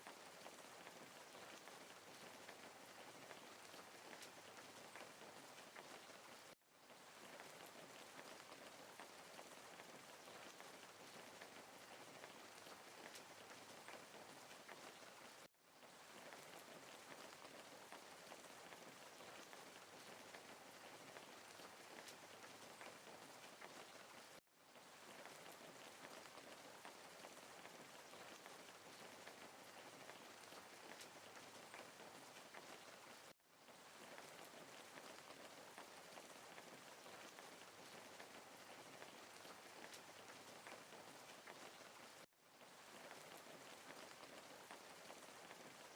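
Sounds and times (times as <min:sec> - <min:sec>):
faint steady rain: 0:00.0 - 0:45.9
raindrops pattering: 0:00.0 - 0:45.9.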